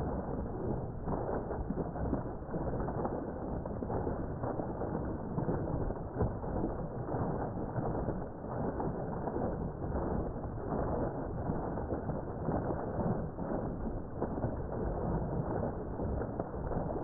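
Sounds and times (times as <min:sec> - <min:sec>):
water jet splashing into pond: 0:00.0 - 0:17.0.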